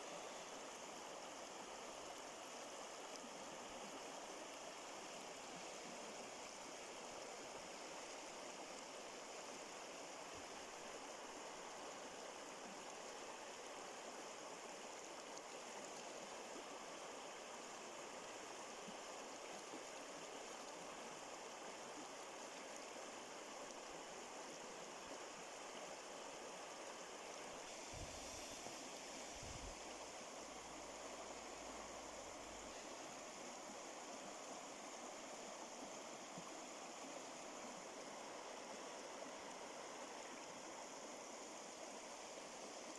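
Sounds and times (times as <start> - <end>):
stream flowing: 0.0 - 42.9.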